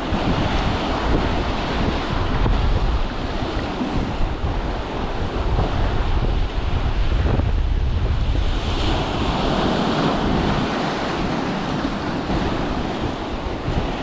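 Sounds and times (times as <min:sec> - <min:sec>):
sea waves breaking on boulders: 0:00.0 - 0:14.0
wind buffeting microphone: 0:00.0 - 0:14.0.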